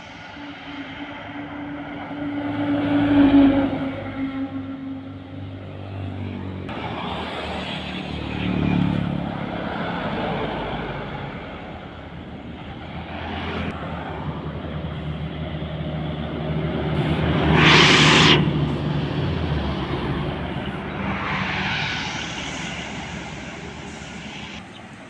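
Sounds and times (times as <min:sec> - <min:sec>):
heavy vehicles driving past: 0:00.0 - 0:25.0.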